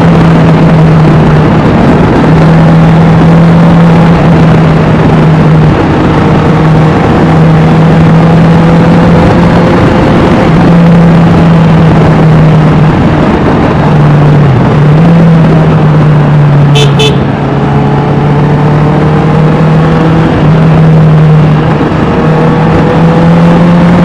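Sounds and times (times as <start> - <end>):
loud motorcycle engine: 0.0 - 24.0.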